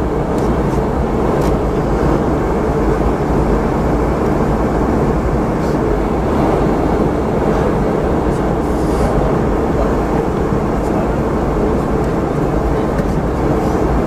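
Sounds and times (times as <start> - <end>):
jet engine drone in cabin: 0.0 - 14.0.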